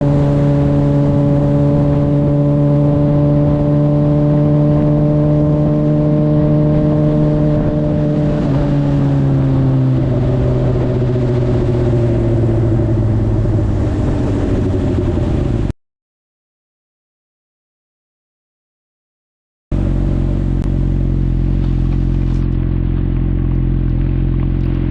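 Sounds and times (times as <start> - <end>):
motorcycle engine running: 0.0 - 15.7, 19.7 - 24.9.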